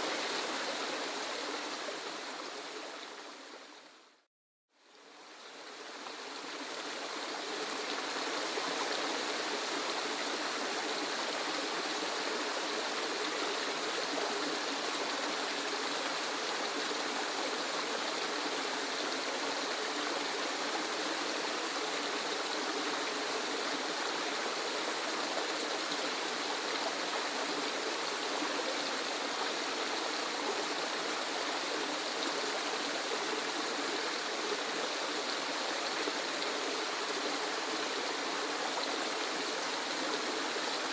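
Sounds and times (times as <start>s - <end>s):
waterfall rushing water: 0.0s - 3.7s, 5.2s - 40.9s.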